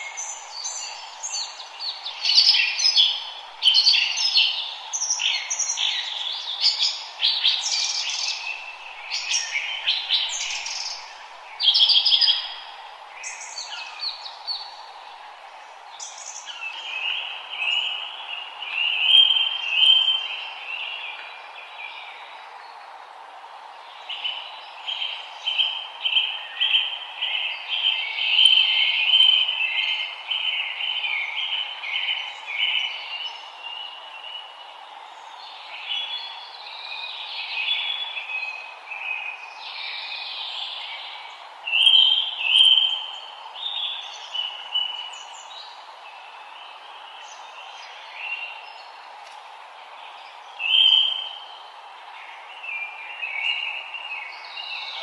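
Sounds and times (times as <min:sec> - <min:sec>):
songbirds singing: 0:00.0 - 0:55.0
steady low hiss: 0:00.0 - 0:55.0.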